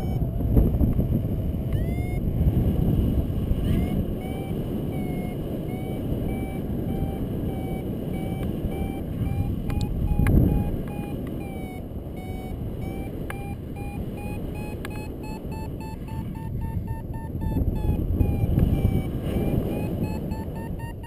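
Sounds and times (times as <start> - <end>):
variometer short beeps: 0.0 - 0.3, 1.7 - 2.3, 3.0 - 21.0
wind rushing over microphone: 0.0 - 21.0.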